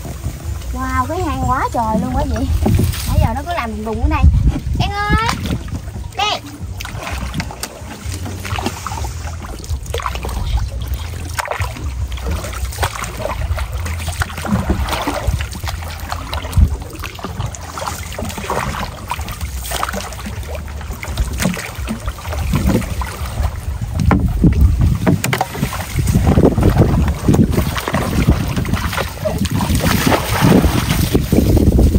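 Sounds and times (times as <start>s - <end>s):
water knocks and splashes: 0.0s - 31.9s
wind buffeting microphone: 0.0s - 31.9s.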